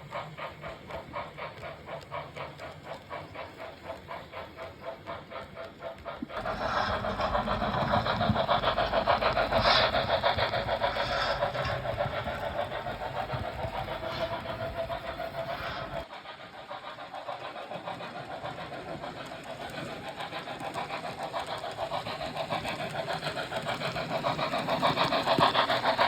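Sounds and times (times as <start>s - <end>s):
model train rattling on track: 0.0s - 26.0s.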